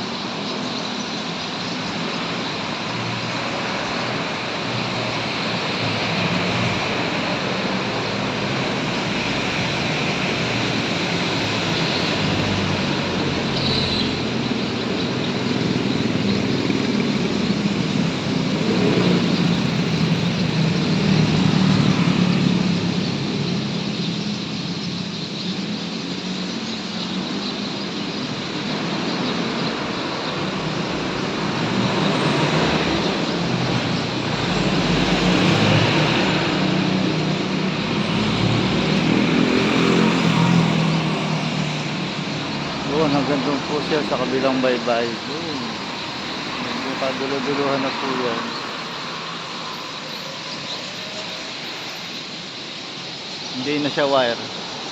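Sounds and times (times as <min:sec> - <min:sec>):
road traffic passing: 0:00.0 - 0:54.9.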